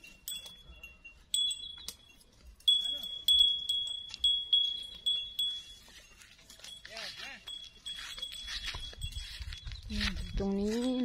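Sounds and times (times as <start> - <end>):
metal bell ringing: 0.0 - 11.0.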